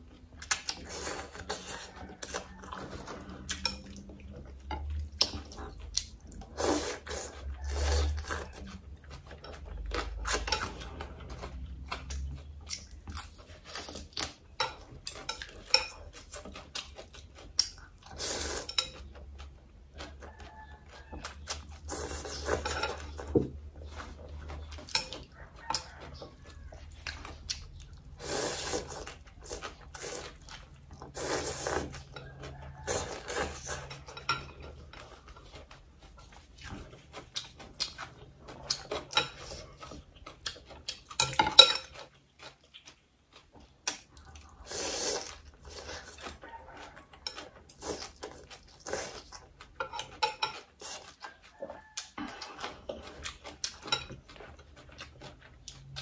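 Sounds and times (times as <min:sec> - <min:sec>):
slurping and chewing: 0:00.0 - 0:56.0.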